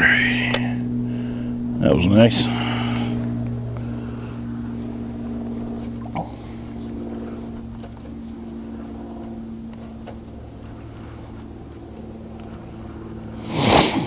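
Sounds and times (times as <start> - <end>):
small motor humming: 0.0 - 14.0.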